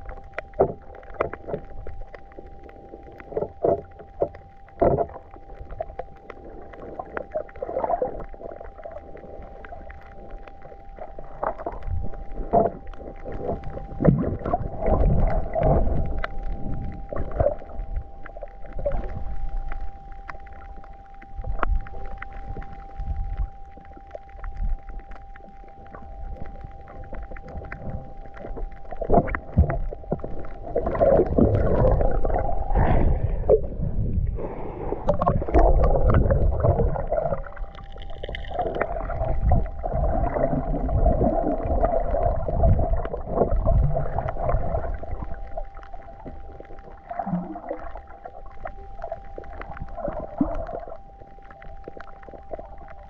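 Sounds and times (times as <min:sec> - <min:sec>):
underwater water movement and bubbling: 0:00.0 - 0:53.0.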